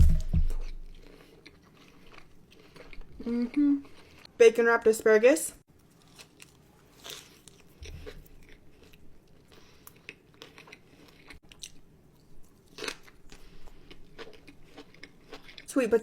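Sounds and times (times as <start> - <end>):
person chewing crunchy food: 0.0 - 4.4, 5.8 - 15.7.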